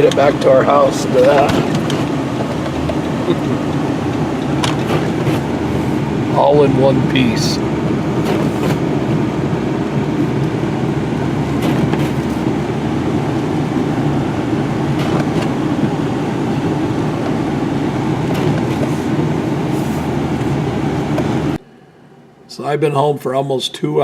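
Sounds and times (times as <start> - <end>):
pickup truck engine rumble: 0.0 - 21.6.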